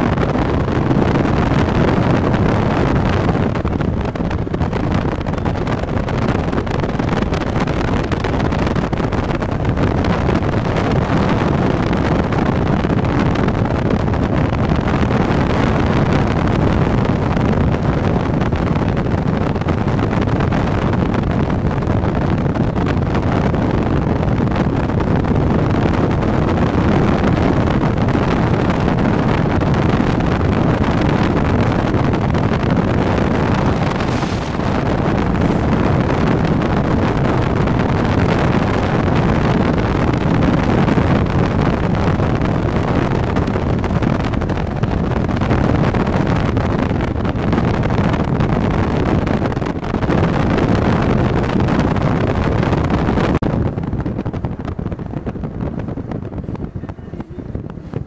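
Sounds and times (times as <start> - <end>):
road noise from moving vehicle: 0.0 - 58.0
wind rushing over microphone: 0.0 - 58.0.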